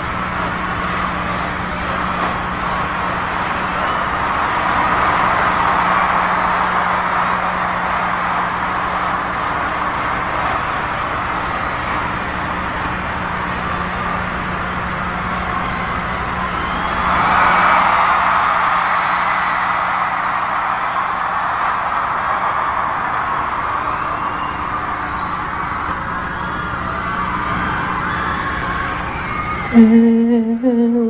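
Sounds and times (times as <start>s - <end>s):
crowd screaming and cheering: 0.0s - 30.6s
low steady hum: 0.0s - 31.0s.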